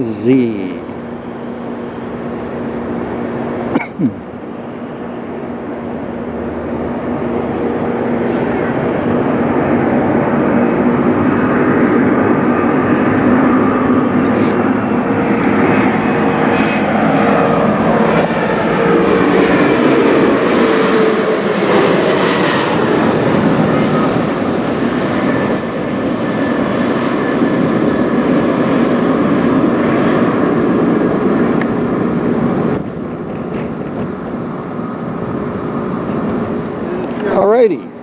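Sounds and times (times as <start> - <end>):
jet passing low overhead: 0.0 - 38.0.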